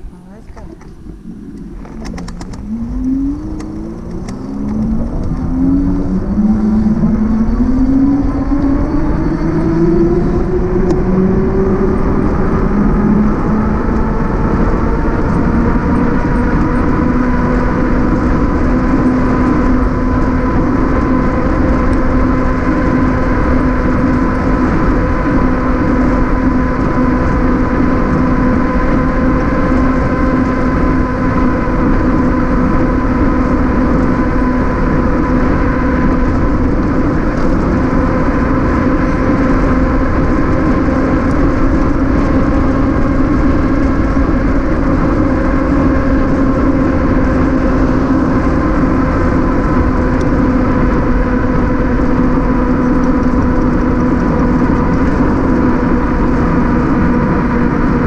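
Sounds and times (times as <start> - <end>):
electric motor whining: 0.0 - 58.0
wind and road noise: 0.0 - 58.0.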